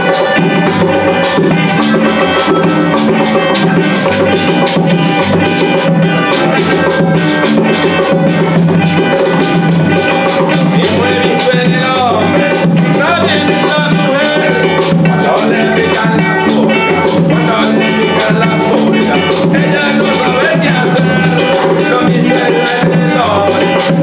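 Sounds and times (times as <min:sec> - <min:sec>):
acoustic guitar: 0:00.0 - 0:24.0
electric bass: 0:00.0 - 0:24.0
harmonica: 0:00.0 - 0:24.0
man singing: 0:00.0 - 0:24.0
percussion beat: 0:00.0 - 0:24.0.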